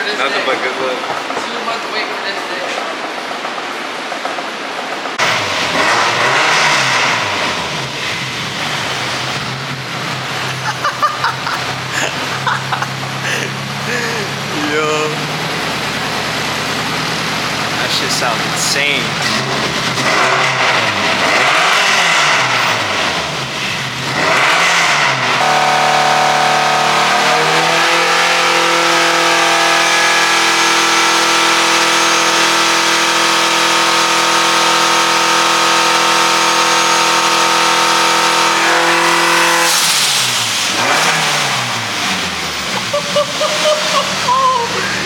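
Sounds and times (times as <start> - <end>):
car engine revving: 5.1 - 45.0.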